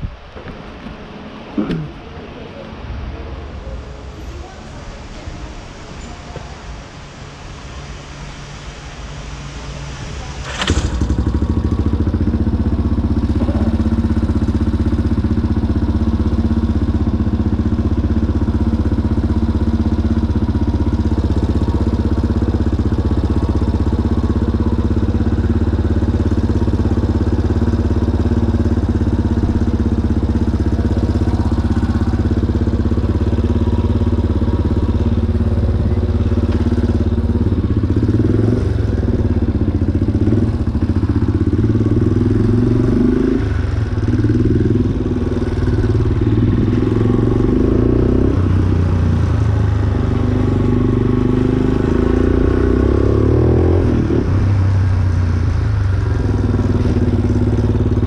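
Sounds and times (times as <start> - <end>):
quad engine starting and idling: 10.3 - 58.0.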